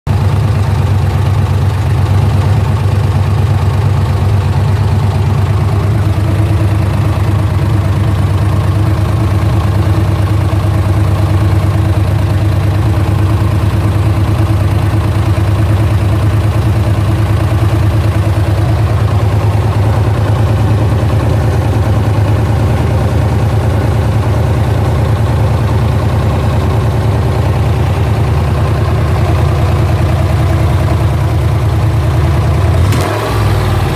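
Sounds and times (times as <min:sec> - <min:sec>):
car engine idling: 0:00.1 - 0:33.9
engine ticking: 0:00.1 - 0:33.9.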